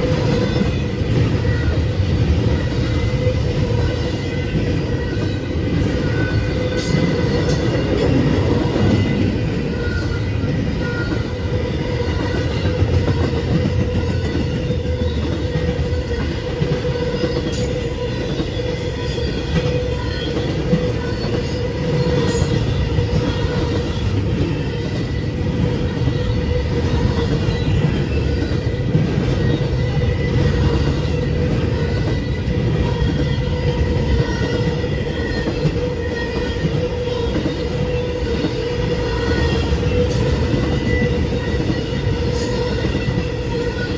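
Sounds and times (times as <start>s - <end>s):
train rumbling on rails: 0.0s - 43.9s.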